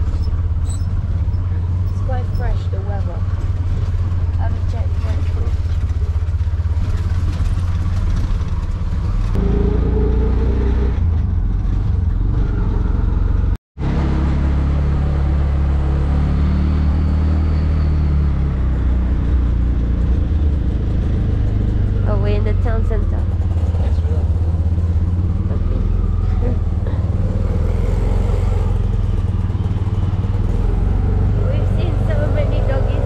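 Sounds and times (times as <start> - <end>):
auto-rickshaw engine running: 0.0 - 33.0.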